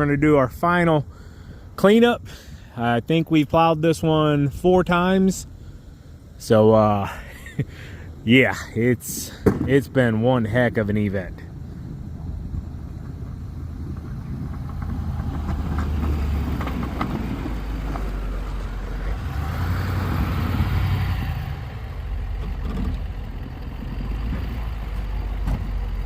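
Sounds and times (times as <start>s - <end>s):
truck engine droning: 0.0s - 26.0s.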